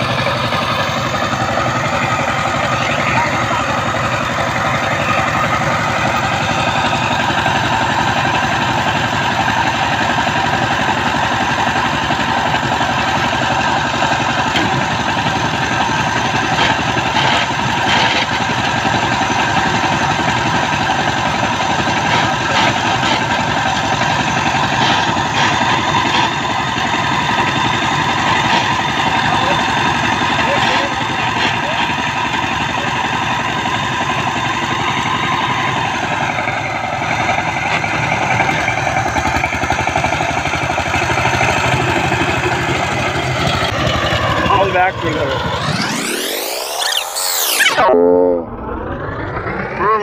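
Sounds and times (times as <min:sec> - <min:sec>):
tiller diesel engine running: 0:00.0 - 0:50.0.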